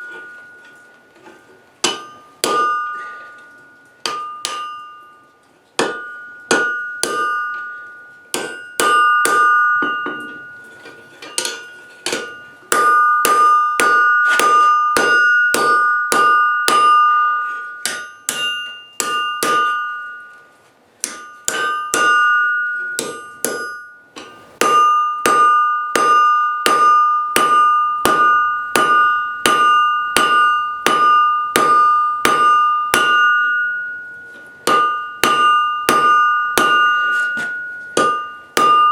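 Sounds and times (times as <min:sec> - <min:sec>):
anvil ringing: 0:00.0 - 0:38.9
hammer striking steel on anvil: 0:00.0 - 0:38.9.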